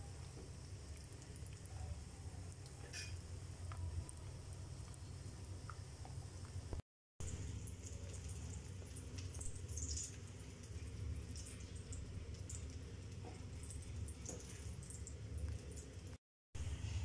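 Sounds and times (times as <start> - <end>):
hot oil crackling: 0.0 - 16.2
low steady hum: 0.0 - 17.0.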